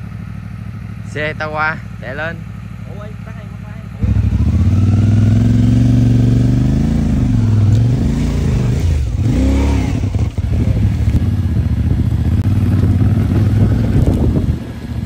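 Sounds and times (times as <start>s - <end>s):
motorcycle engine throttle blips: 0.0s - 15.0s.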